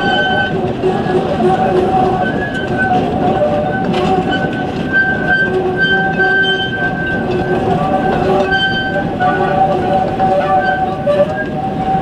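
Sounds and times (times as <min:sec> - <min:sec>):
high wheel squeals: 0:00.0 - 0:12.0
train wheels rumbling on track: 0:00.0 - 0:12.0.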